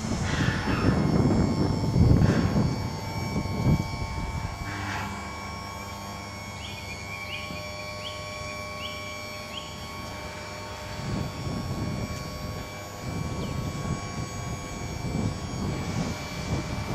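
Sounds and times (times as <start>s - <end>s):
electric lift mechanism humming: 0.0s - 16.9s.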